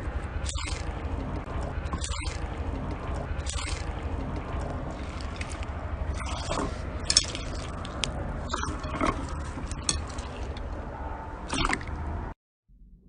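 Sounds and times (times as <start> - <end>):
slime squishing: 0.0 - 12.0
steady low hum: 0.0 - 12.4.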